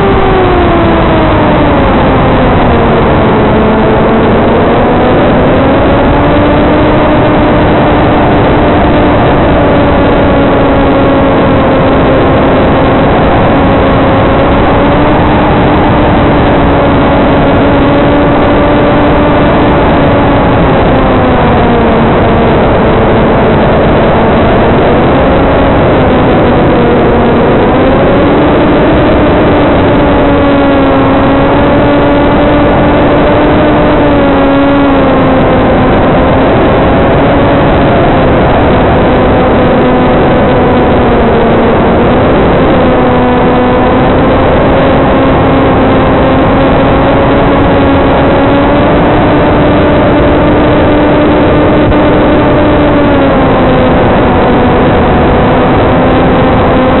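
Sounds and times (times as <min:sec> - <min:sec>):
electric motor hum: 0:00.0 - 0:57.0.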